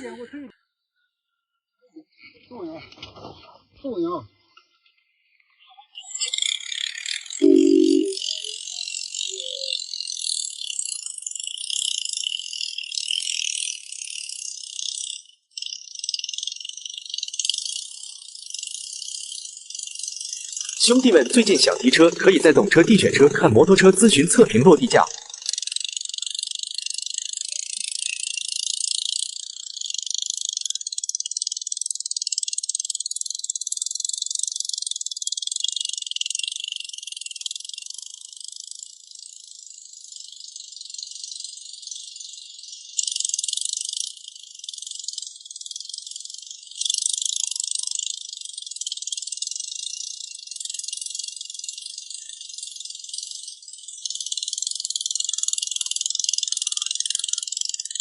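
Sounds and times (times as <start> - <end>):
high-pitched insect chorus buzzing: 6.0 - 58.0.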